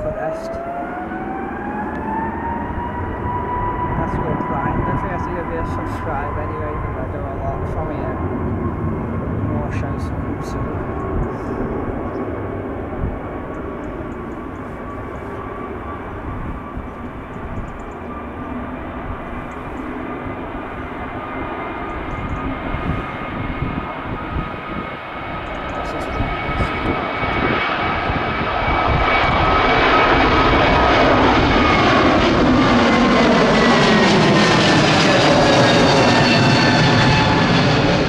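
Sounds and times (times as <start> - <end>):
jet engines whining at take-off: 0.0 - 38.0
wind buffeting microphone: 0.0 - 38.0.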